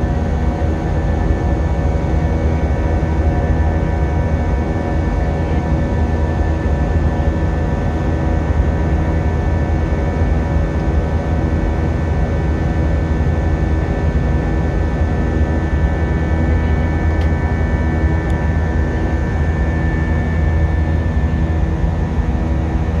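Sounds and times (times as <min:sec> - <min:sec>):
airplane cabin rumble: 0:00.0 - 0:23.0
jet engine whine: 0:00.0 - 0:23.0.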